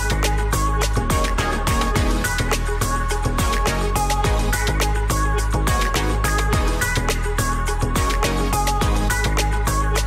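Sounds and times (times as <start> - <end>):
electronic drum beat: 0.0 - 10.0.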